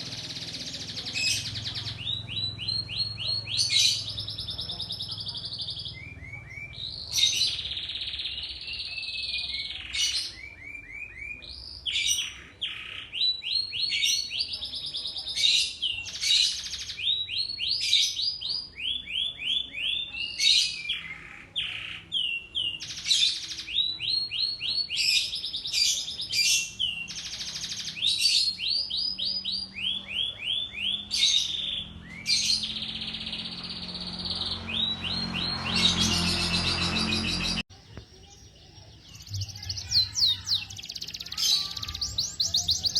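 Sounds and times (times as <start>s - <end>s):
canary singing: 0.0s - 14.7s, 15.7s - 42.9s.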